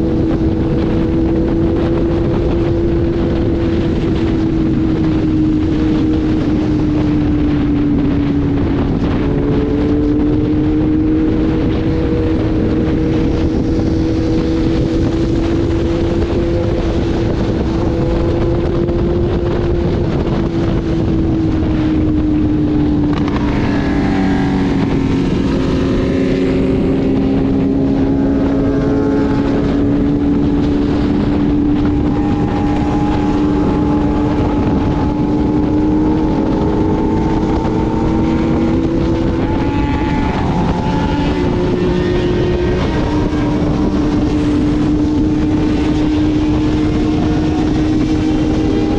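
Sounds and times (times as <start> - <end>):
motorcycle engine cruising: 0.0 - 48.9
second engine shifting pitch: 0.0 - 48.9
wind noise on microphone: 0.0 - 48.9.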